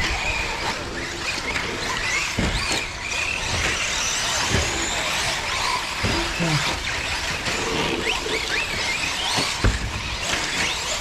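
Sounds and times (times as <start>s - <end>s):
rc car motors whining: 0.0s - 11.0s.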